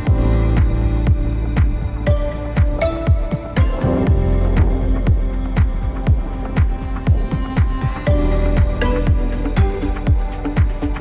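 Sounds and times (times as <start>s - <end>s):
electronic music kick-drum beat: 0.0s - 11.0s
held synth chords: 0.0s - 11.0s.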